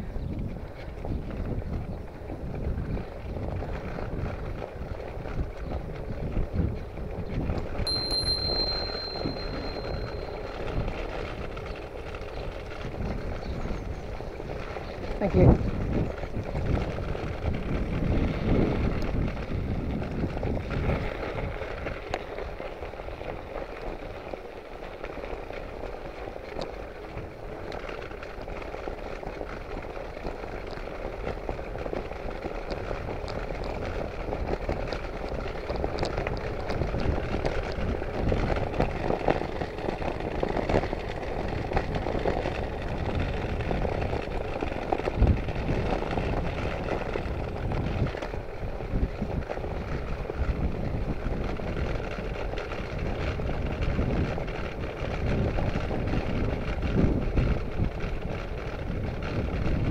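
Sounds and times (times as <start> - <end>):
wind on microphone: 0.0 - 23.4, 29.5 - 59.9
bicycle tyres rolling on road: 0.0 - 59.9.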